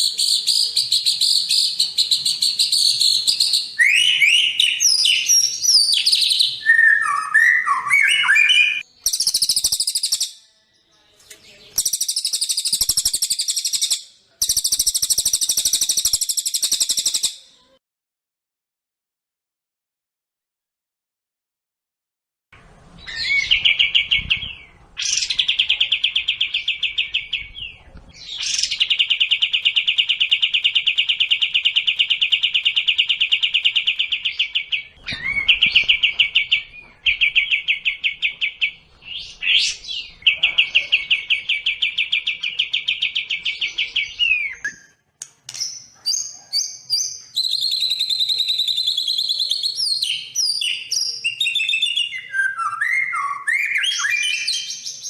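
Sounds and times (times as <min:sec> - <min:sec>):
bird trilling and whistling: 0:00.0 - 0:10.4, 0:11.8 - 0:17.4, 0:23.0 - 0:27.4, 0:28.2 - 0:44.9, 0:45.5 - 0:54.9.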